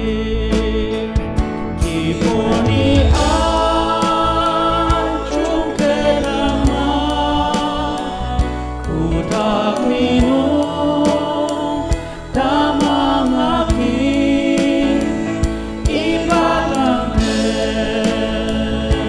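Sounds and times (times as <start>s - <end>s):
voices singing a hymn: 0.0s - 19.0s
accompaniment with steady beat: 0.6s - 19.0s.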